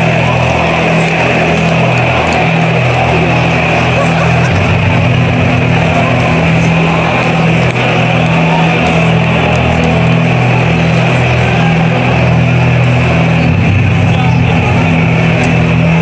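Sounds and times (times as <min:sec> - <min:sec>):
crowd noise: 0:00.0 - 0:16.0
entrance music over loudspeakers: 0:00.0 - 0:16.0.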